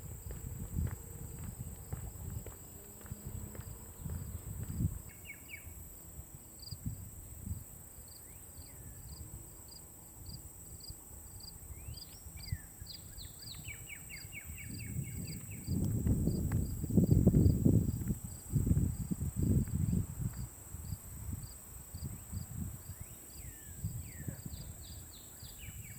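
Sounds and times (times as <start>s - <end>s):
cricket chirps: 0.0s - 25.9s
insect drone: 0.0s - 25.9s.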